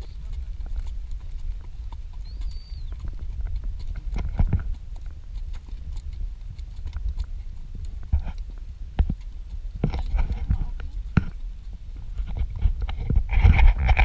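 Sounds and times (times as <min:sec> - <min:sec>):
hooves walking on sand: 0:00.0 - 0:14.0.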